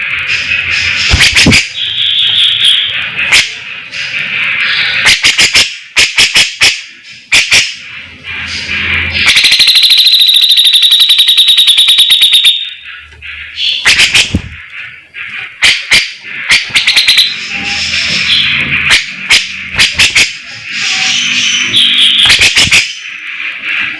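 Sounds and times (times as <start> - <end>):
high bird trill: 0.0 - 23.9.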